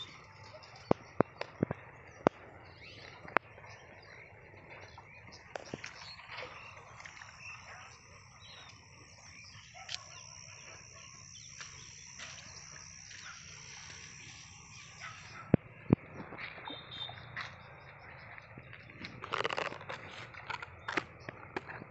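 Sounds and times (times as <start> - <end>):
birds calling faintly: 0.0 - 21.9.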